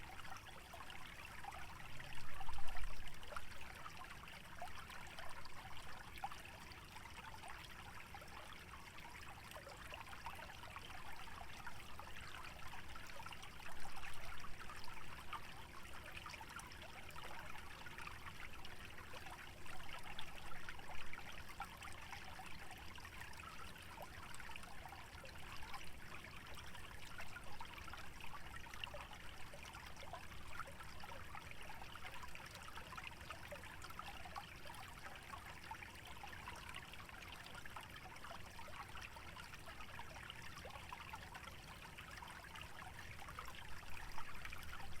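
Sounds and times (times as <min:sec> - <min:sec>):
stream trickling and bubbling: 0:00.0 - 0:45.0.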